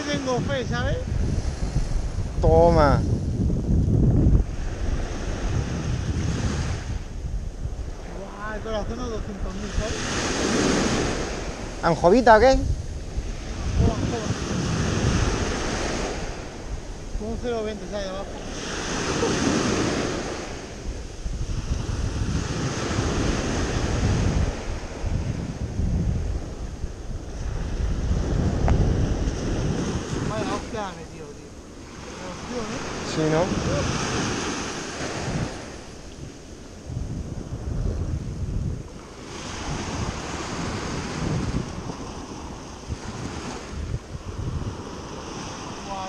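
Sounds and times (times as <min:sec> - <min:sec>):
small waves breaking on beach: 0:00.0 - 0:46.0
wind buffeting microphone: 0:00.0 - 0:46.0.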